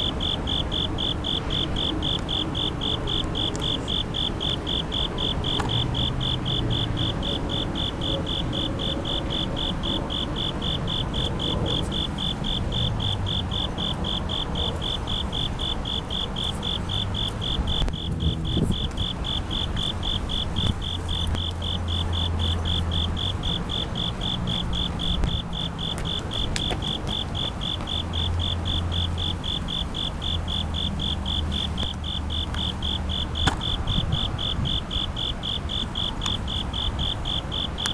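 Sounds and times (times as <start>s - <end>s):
crickets chirping high trill: 0.0s - 37.9s
distant city traffic rumble: 0.0s - 37.9s.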